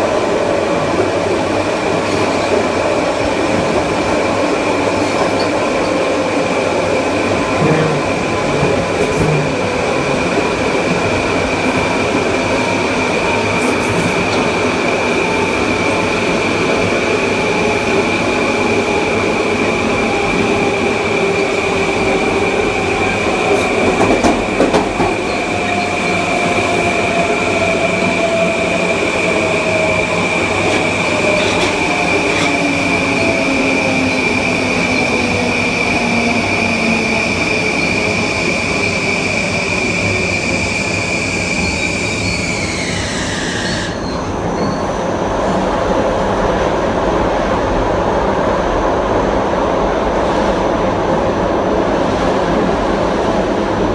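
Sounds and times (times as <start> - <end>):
rail and wheel noise: 0.0 - 53.9.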